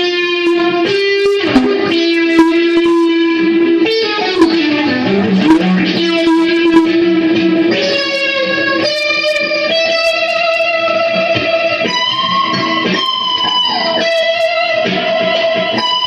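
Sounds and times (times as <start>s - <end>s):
electric guitar lead line: 0.0s - 16.0s.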